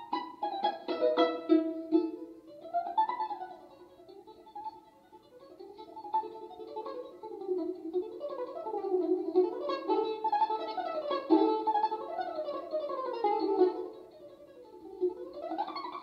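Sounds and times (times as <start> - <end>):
balalaika playing plucked runs: 0.0 - 16.0.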